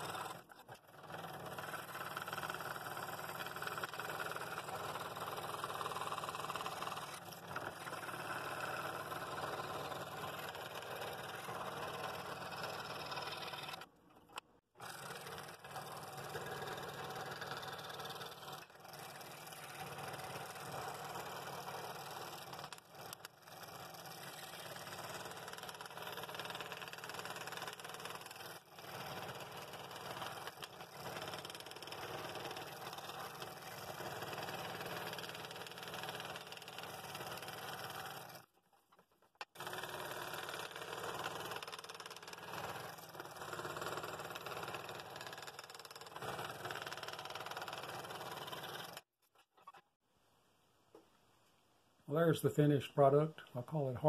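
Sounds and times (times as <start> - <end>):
scroll saw cutting wood: 0.0 - 38.6, 39.4 - 49.8.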